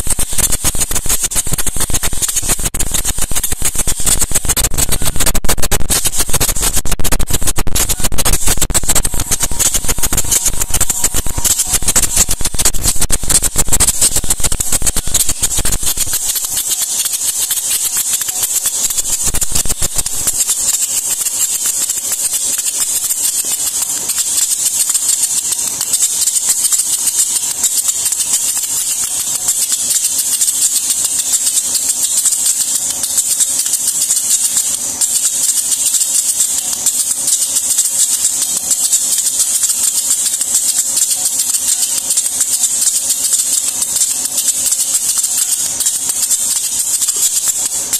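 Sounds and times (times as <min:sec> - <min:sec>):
fast continuous machine rattle: 0:00.0 - 0:47.9
motor hum: 0:00.0 - 0:47.9.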